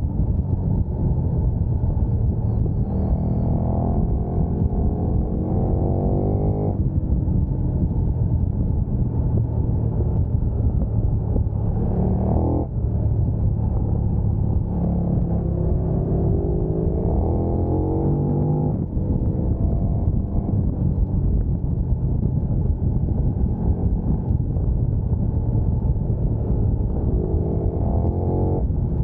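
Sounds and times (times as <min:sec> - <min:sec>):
motorcycle engine revving through gears: 0:00.4 - 0:29.0.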